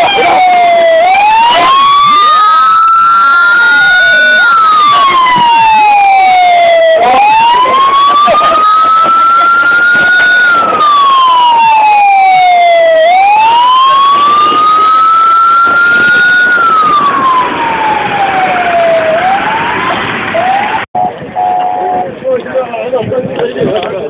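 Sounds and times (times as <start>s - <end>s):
emergency siren wailing: 0.0s - 22.1s.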